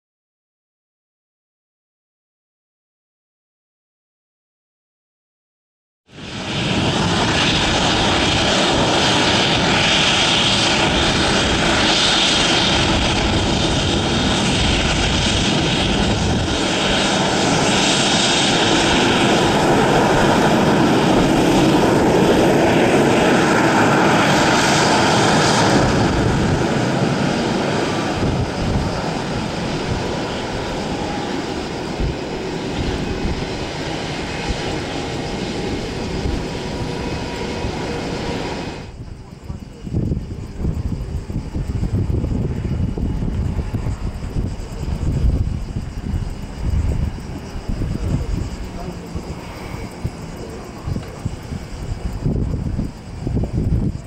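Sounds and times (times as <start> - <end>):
jet engine whine and rush: 6.1 - 54.0.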